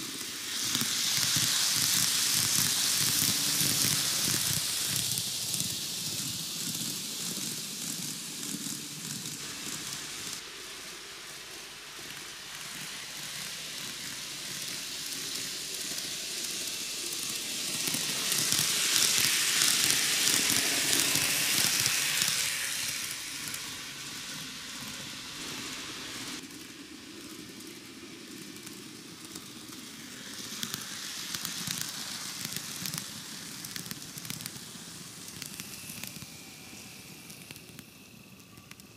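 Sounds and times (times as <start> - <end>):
model train wheels rattling on rails: 0.0 - 38.9.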